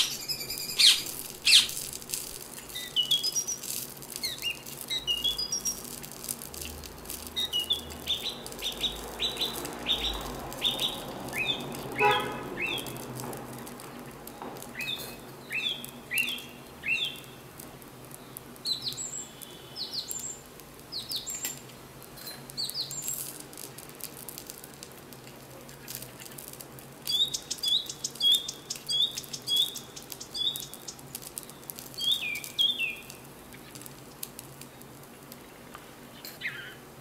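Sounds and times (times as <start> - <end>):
small birds chirping: 0.0 - 23.9, 25.6 - 34.0, 34.6 - 36.8.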